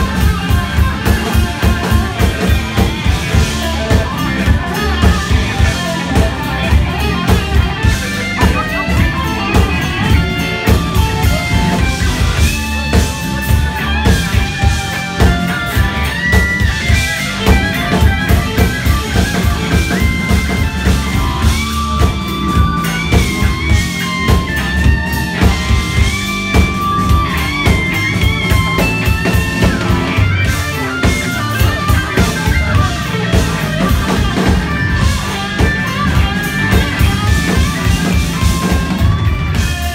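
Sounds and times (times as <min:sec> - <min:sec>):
drum kit beat: 0:00.0 - 0:39.9
electric guitar sliding notes: 0:00.0 - 0:39.9.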